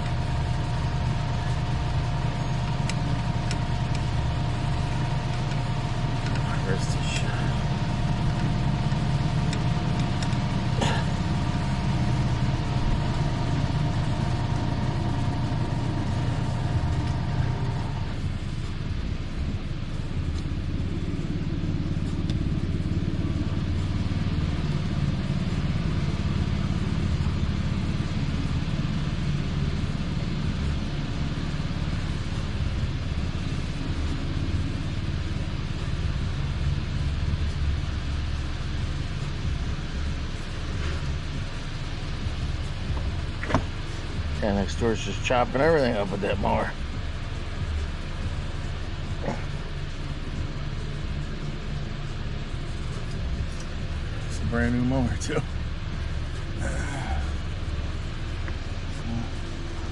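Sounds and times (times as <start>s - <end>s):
small gasoline engine running: 0.0s - 59.9s
thin whine: 0.0s - 59.9s.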